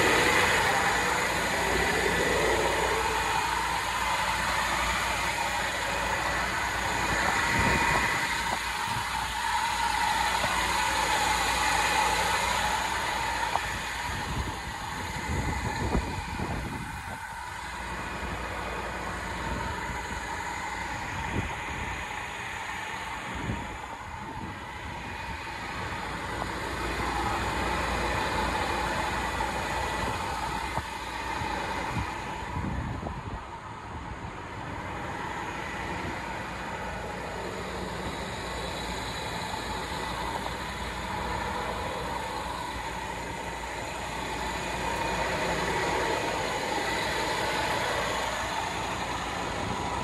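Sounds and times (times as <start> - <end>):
vehicle rumble and hum: 0.0 - 50.0.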